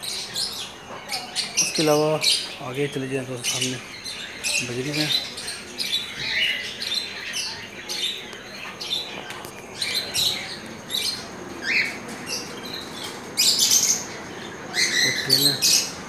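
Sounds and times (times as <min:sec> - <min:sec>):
small parrots chirping: 0:00.0 - 0:16.0.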